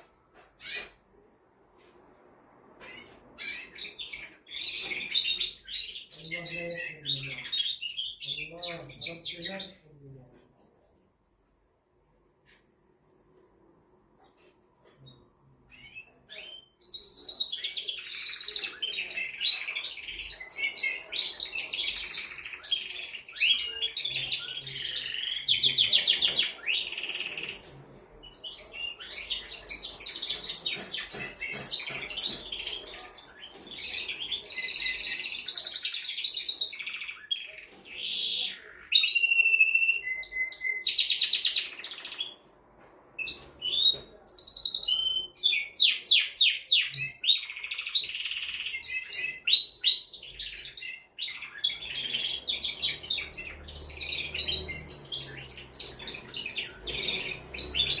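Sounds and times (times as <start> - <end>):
canary singing trills: 0.4 - 1.0, 2.8 - 9.9, 14.9 - 42.4, 43.2 - 58.0.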